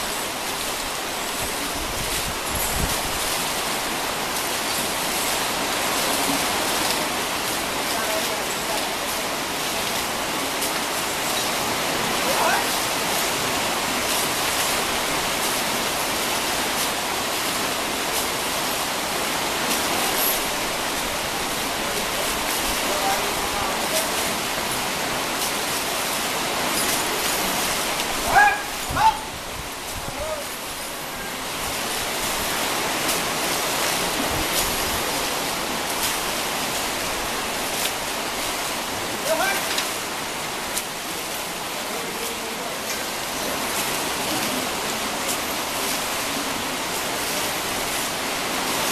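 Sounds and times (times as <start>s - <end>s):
river rushing over rocks: 0.0s - 48.9s
water splashing from buckets: 0.0s - 48.9s.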